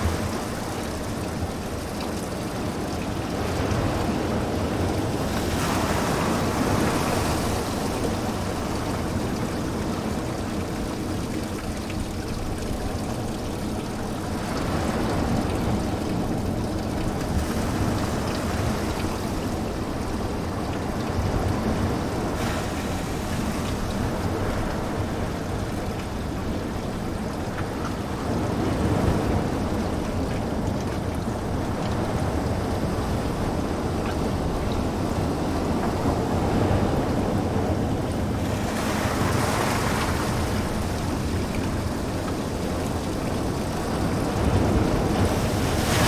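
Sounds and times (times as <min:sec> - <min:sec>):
ocean waves breaking on beach: 0:00.0 - 0:46.0.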